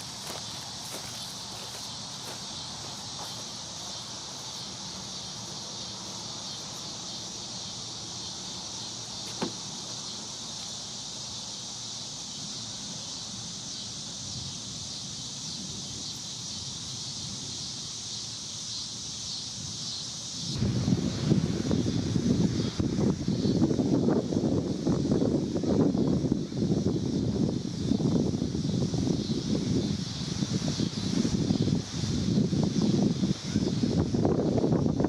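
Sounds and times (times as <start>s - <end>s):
crickets chirping chorus: 0.0s - 35.0s.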